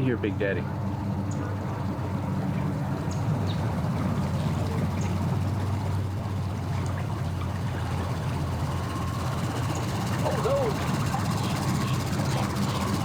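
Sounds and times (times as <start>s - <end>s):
boat motor humming: 0.0s - 13.0s
water splashing around hull: 0.0s - 13.0s.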